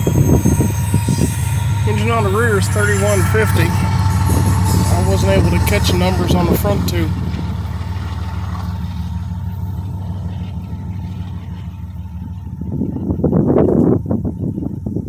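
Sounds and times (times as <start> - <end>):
rough uneven noise: 0.0 - 13.7
freight train rumbling past: 0.0 - 15.0.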